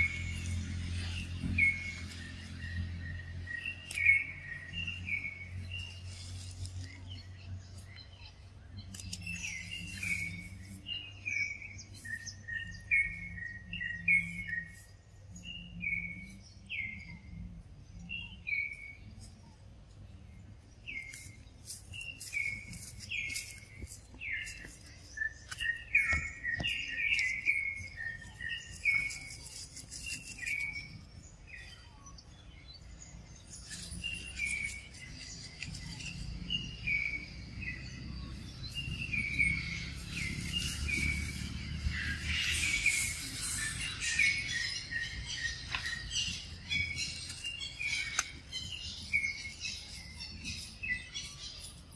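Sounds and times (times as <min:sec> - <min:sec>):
songbird chirping: 0:00.0 - 0:51.9.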